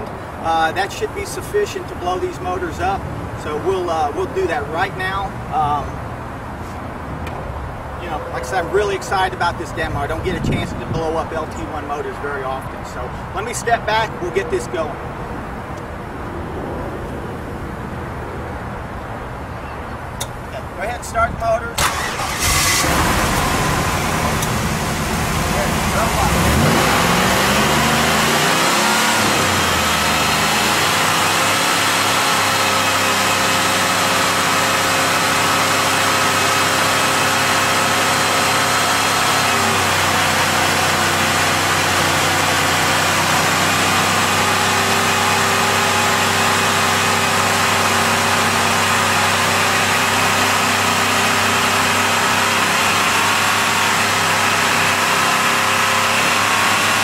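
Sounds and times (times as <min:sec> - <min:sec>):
car engines revving: 0:00.0 - 0:20.9, 0:21.7 - 0:57.0.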